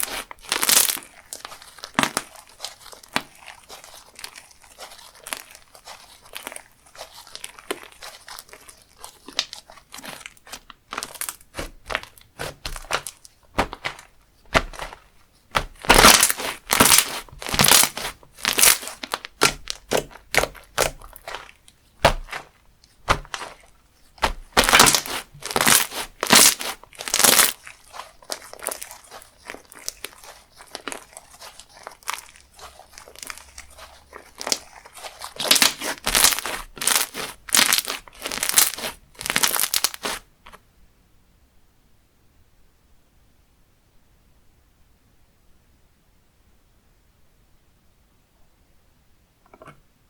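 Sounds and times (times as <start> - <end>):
slime squeezed by hand crackling: 0.0 - 40.3.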